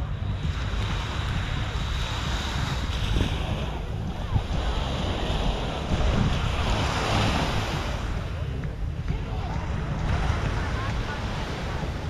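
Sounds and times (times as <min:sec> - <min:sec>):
surf breaking on a beach: 0:00.0 - 0:12.0
wind rumbling on microphone: 0:00.0 - 0:12.0.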